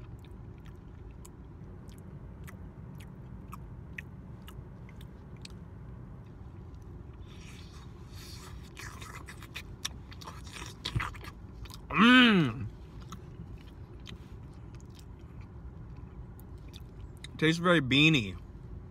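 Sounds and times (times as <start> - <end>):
person chewing: 0.0 - 5.7, 6.6 - 17.4
low rumble inside car: 0.0 - 18.9.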